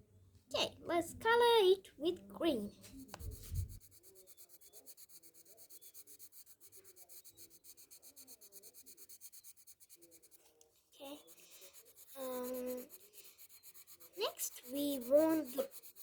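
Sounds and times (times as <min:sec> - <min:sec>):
pencil scribbling on paper: 0:02.6 - 0:16.0.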